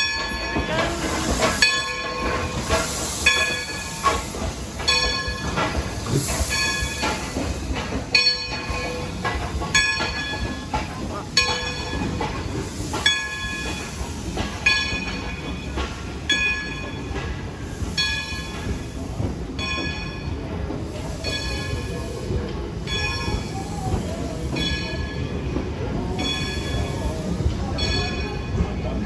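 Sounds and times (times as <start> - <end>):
locomotive bell ringing: 0.0 - 29.0
low rumble of train: 0.0 - 29.0.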